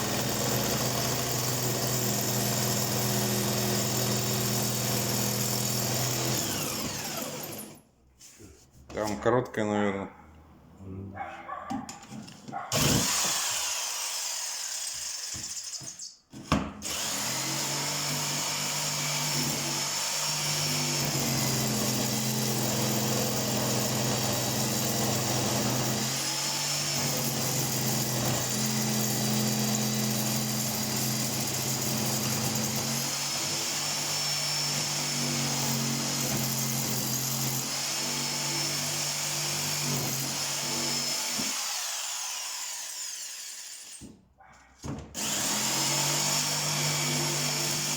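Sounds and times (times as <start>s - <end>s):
electric drill running: 0.0s - 7.8s, 12.8s - 15.8s, 16.8s - 44.0s, 45.2s - 47.9s.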